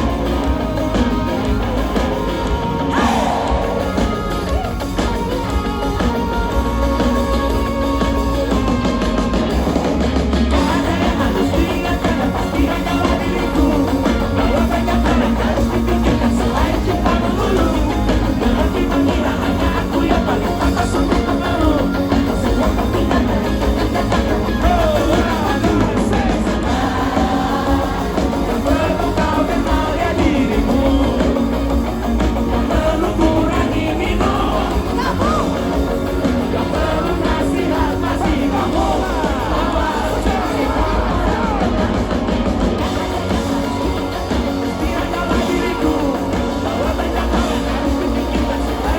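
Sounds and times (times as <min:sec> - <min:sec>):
lead vocal singing: 0:00.0 - 0:48.9
live rock band playing: 0:00.0 - 0:48.9.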